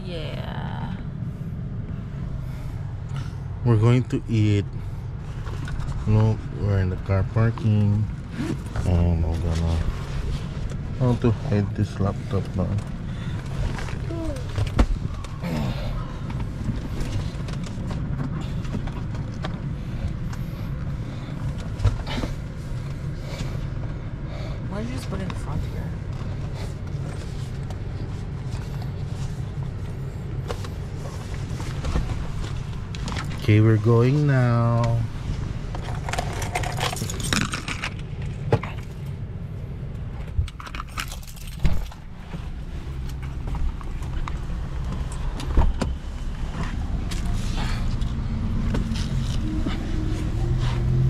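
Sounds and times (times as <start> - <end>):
low rumble in car cabin: 0.0 - 51.0.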